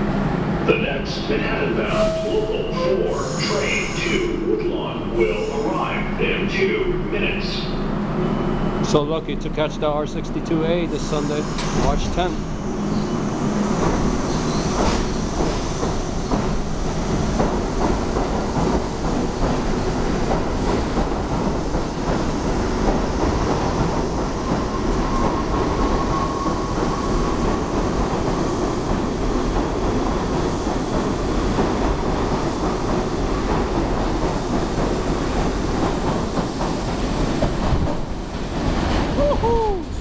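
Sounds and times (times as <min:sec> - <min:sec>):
subway train wheels on rails: 0:00.0 - 0:40.0.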